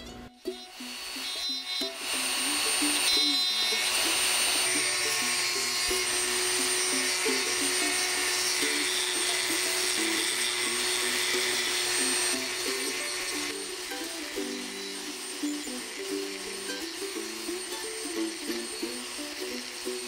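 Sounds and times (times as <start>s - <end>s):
plucked background music: 0.0s - 20.0s
rotary tool grinding metal: 0.3s - 20.0s.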